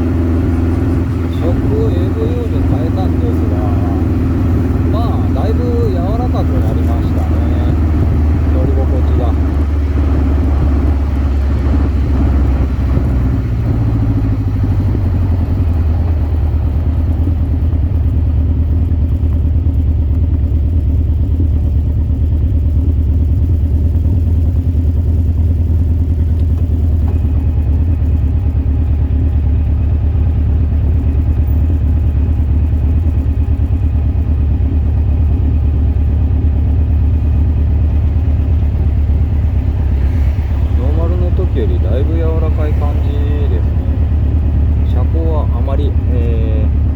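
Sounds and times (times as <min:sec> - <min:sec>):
car engine running: 0:00.0 - 0:46.9
road and wind noise: 0:00.0 - 0:46.9.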